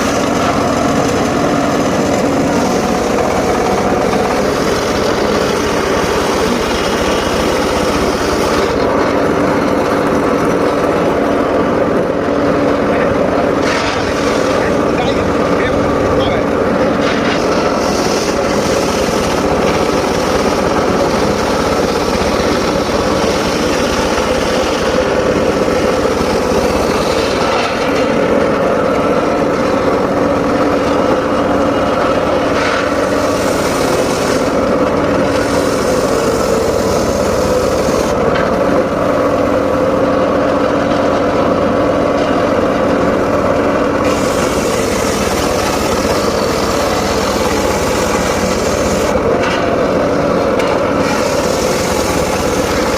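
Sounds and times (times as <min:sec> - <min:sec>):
saw cutting wood hiss: 0:00.0 - 0:11.4, 0:12.4 - 0:28.9, 0:30.6 - 0:38.3, 0:44.0 - 0:49.2, 0:50.8 - 0:52.9
circular saw droning: 0:00.0 - 0:42.1, 0:43.0 - 0:52.9.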